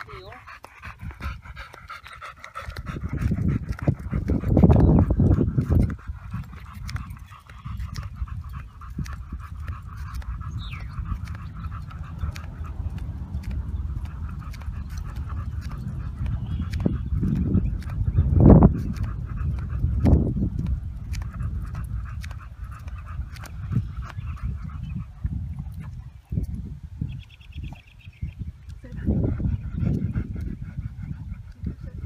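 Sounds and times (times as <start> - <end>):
dog panting: 0.0 - 27.1, 28.7 - 32.0
low rumble: 0.5 - 32.0.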